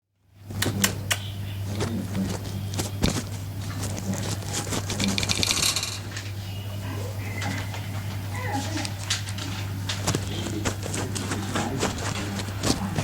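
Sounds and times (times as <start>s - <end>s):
low electrical hum: 0.0s - 13.0s
caged birds chirping and chattering: 0.4s - 13.0s.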